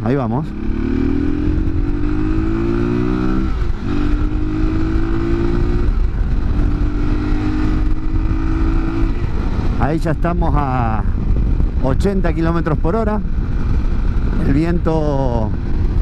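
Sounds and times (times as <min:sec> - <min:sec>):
motorcycle engine accelerating: 0:00.0 - 0:16.0
wind buffeting microphone: 0:00.0 - 0:16.0.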